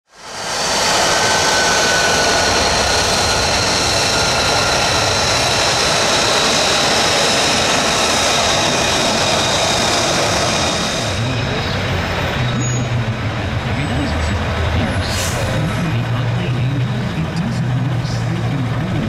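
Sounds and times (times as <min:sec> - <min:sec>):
jet engine idling with whine: 0:00.1 - 0:19.0.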